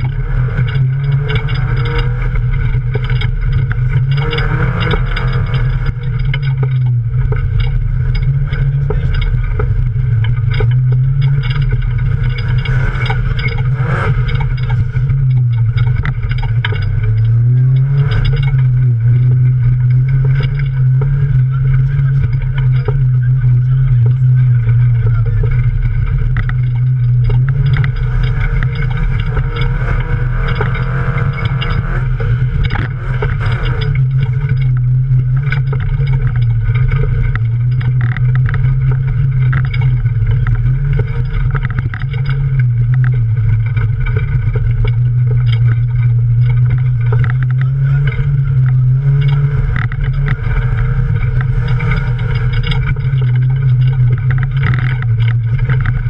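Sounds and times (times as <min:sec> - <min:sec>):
mud and grit pattering on car body: 0:00.0 - 0:56.0
race car engine running hard: 0:00.0 - 0:56.0.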